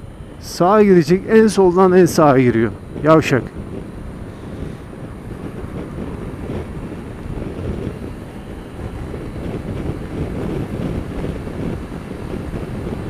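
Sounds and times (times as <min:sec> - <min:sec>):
scooter engine and road noise: 0:00.0 - 0:13.0
wind buffeting microphone: 0:00.0 - 0:13.0.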